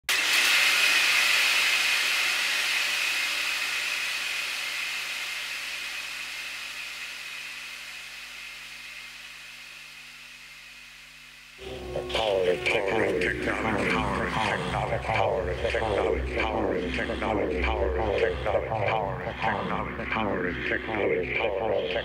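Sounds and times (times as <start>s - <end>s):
steady hiss: 0.1s - 22.0s.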